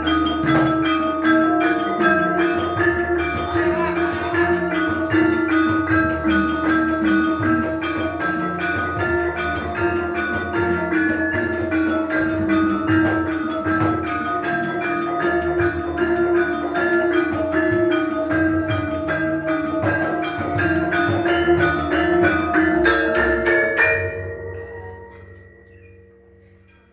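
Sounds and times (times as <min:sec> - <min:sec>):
gamelan ensemble playing: 0:00.0 - 0:26.9.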